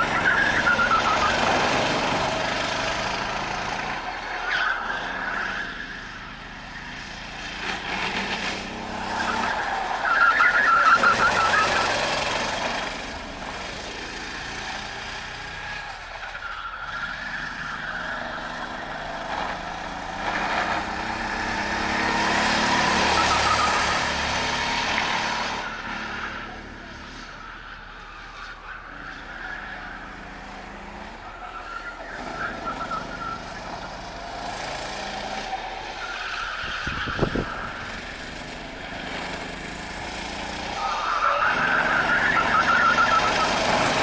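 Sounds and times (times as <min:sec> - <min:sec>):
kart engines accelerating and braking: 0:00.0 - 0:44.0.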